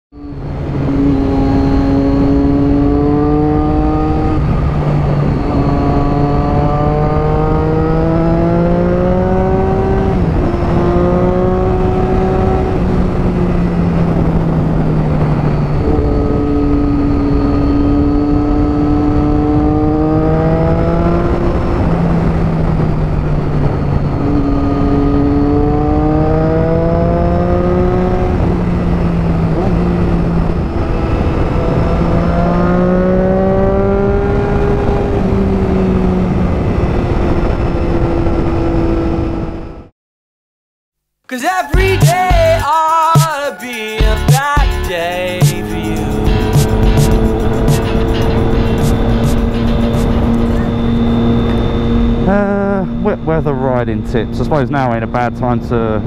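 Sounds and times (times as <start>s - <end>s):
motorcycle engine accelerating: 0.2s - 39.9s, 44.1s - 56.0s
wind noise rushing: 0.4s - 39.8s, 44.7s - 52.3s.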